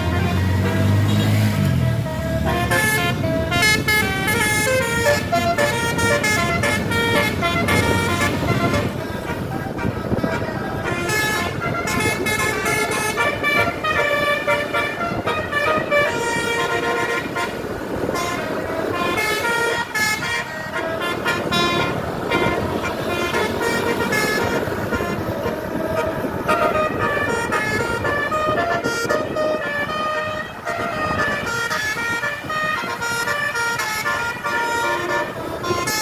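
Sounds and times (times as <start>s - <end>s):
musical air horns playing tunes: 0.0s - 36.0s
traffic rumble: 0.0s - 36.0s.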